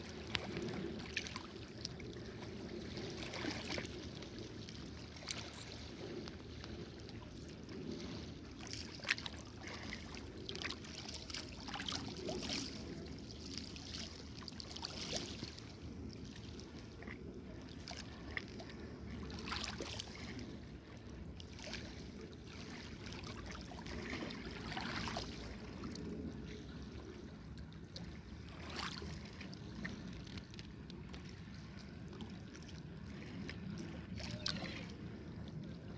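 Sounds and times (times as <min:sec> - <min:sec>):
steady low rumble: 0:00.0 - 0:35.9
water lapping and splashing: 0:00.0 - 0:35.9.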